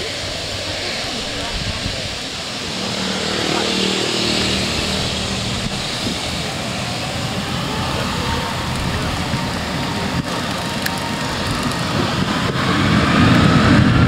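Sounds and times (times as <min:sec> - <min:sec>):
low steady tones: 0:00.0 - 0:12.3
jet engines rushing: 0:00.0 - 0:14.0.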